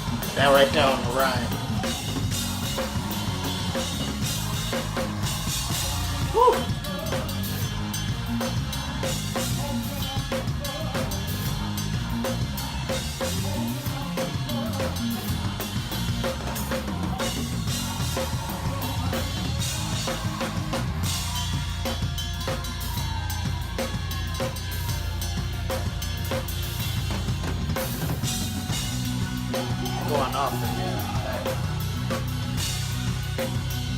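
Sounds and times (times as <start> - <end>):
band music: 0.0 - 33.9
drum kit fast groove: 0.0 - 33.9.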